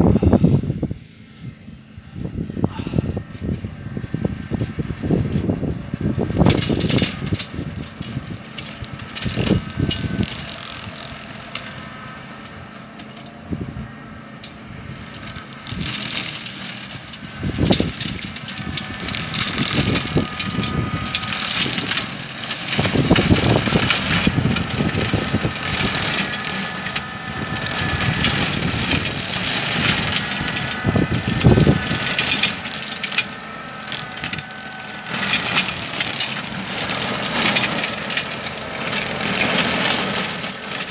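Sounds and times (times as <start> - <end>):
brush cutter engine under load: 0.0 - 40.9
stems crackling and crushing: 2.7 - 40.9.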